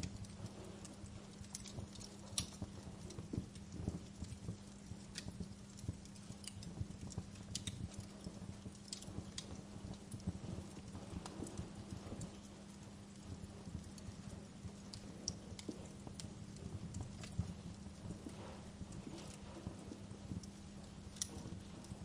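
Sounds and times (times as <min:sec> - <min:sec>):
faint steady hum: 0:00.0 - 0:22.0
wood fire crackling: 0:00.0 - 0:22.0.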